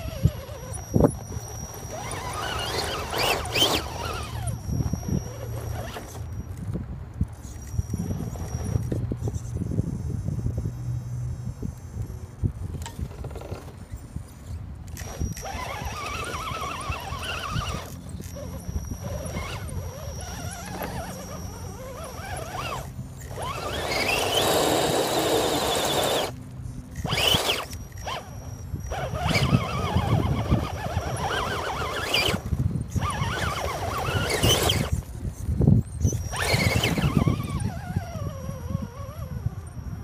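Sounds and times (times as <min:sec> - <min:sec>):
toy car electric motor whining: 0:00.0 - 0:40.0.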